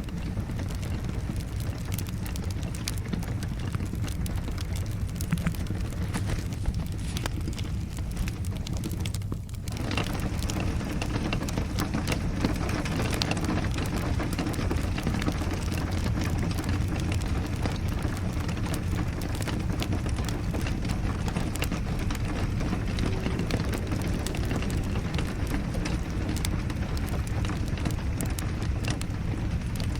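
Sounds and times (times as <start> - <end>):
low rumble: 0.0 - 29.9
rain: 0.0 - 29.9
wood fire crackling and popping: 0.0 - 29.9.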